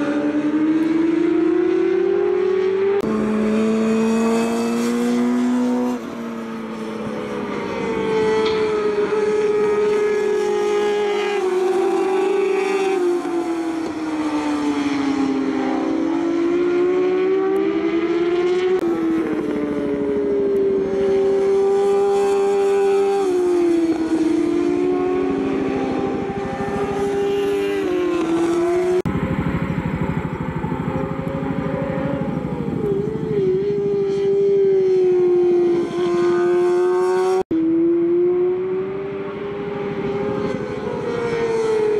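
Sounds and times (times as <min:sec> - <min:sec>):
racing motorcycle engines high revs: 0:00.0 - 0:41.9.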